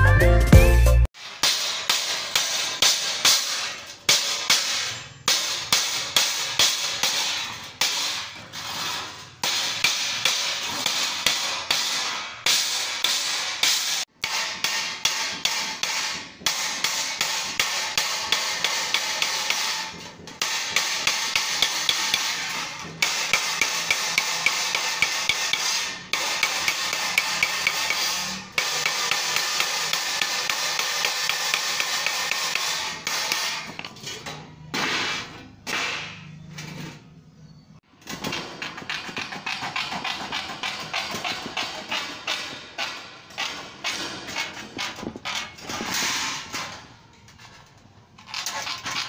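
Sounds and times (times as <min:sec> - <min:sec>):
hammer striking sheet metal: 0:01.2 - 0:37.0, 0:38.0 - 0:47.2.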